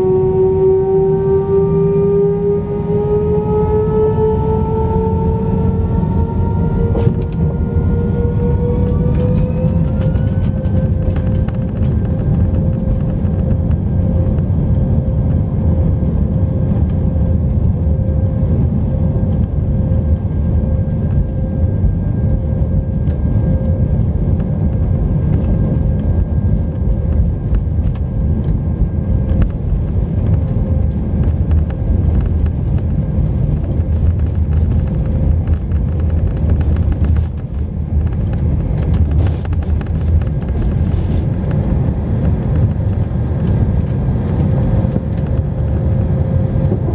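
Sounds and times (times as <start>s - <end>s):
jet engines humming: 0.0s - 46.9s
wheels rumbling on runway: 0.0s - 46.9s.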